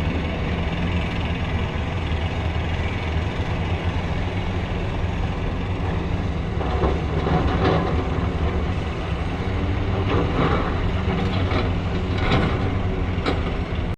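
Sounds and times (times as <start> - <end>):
excavator diesel engine running: 0.0 - 13.9.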